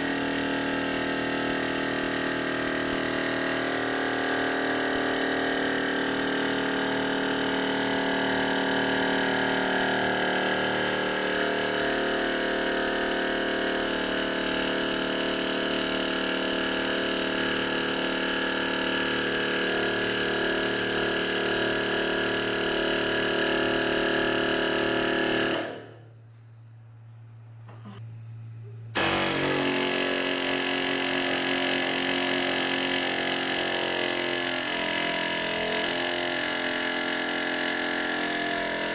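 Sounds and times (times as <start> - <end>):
air hammer rapid hammering: 0.0 - 25.9, 29.0 - 38.9.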